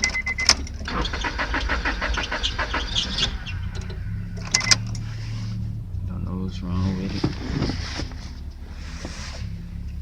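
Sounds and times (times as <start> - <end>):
car engine cranking: 0.0 - 10.0
low steady hum: 0.0 - 10.0.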